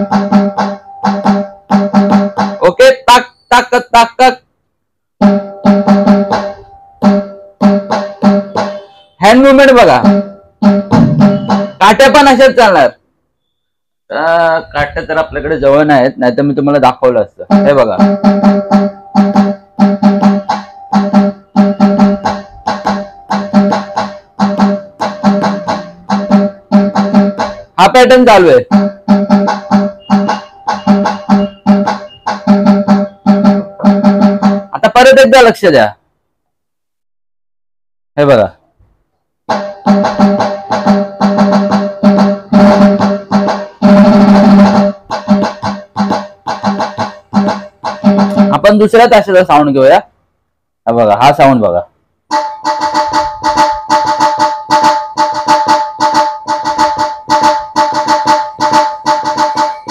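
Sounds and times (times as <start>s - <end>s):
electronic drum strikes: 0.0s - 4.3s, 5.2s - 13.0s, 17.4s - 35.7s, 39.5s - 49.7s, 52.3s - 59.9s.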